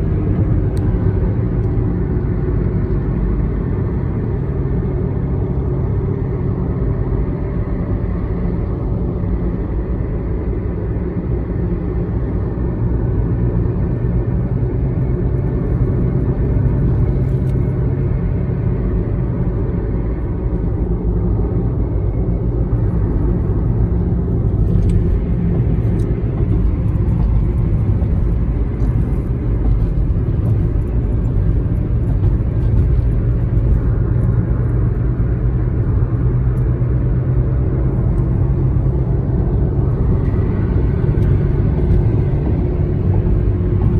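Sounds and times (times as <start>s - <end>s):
car road noise inside cabin: 0.0s - 43.9s.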